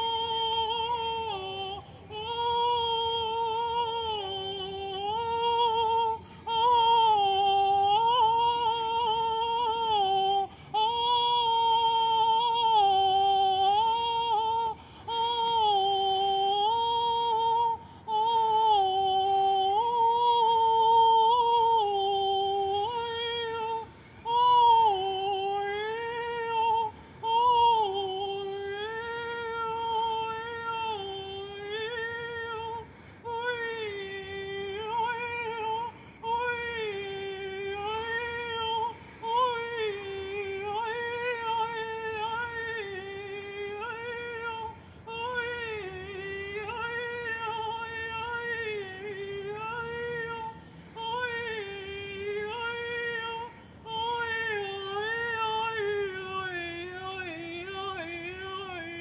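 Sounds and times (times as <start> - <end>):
woman singing wordless vocals: 0.0 - 59.0.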